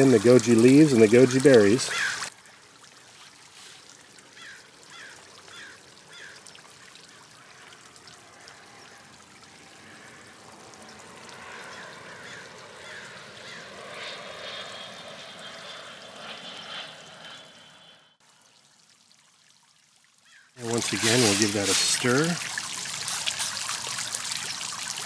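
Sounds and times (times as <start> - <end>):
fountain splashing: 0.0 - 13.4, 18.2 - 25.0.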